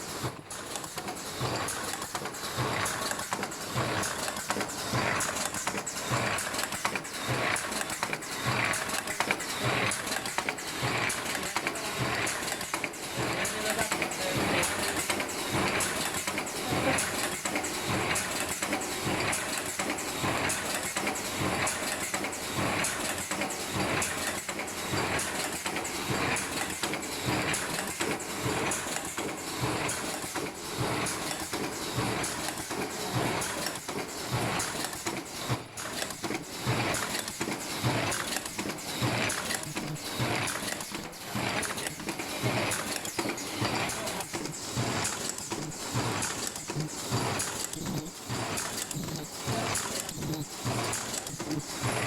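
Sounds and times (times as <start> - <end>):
mechanical knocks and clatter: 0.0 - 52.0
steady machine noise: 0.0 - 52.0.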